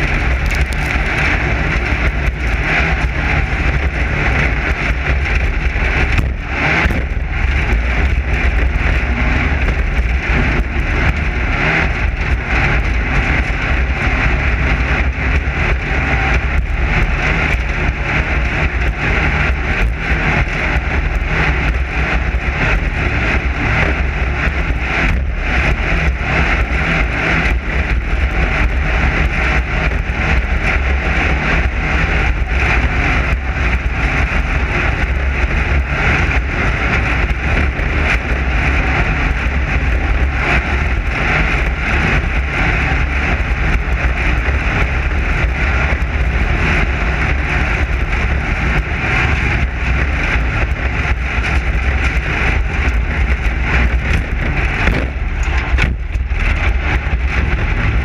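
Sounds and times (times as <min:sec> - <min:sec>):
buggy engine running at speed: 0:00.0 - 0:58.0
road noise: 0:00.0 - 0:58.0.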